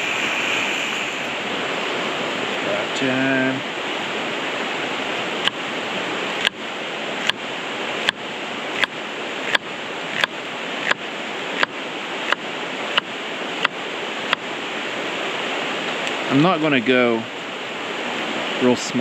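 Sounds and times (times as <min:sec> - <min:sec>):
creek rushing: 0:00.0 - 0:19.0.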